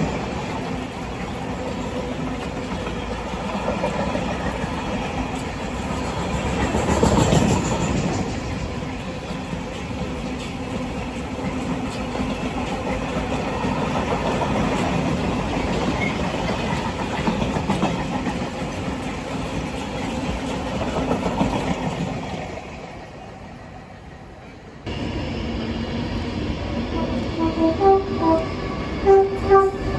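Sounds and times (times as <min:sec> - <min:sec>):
train rumbling by: 0:00.0 - 0:29.9.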